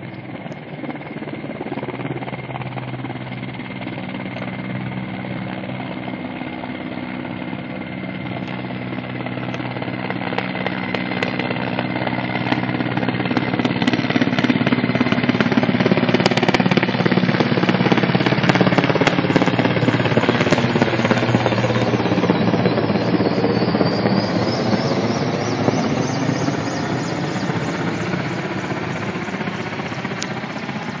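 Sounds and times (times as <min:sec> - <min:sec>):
helicopter rotors beating: 0:00.0 - 0:31.0
turbine noise: 0:00.0 - 0:31.0.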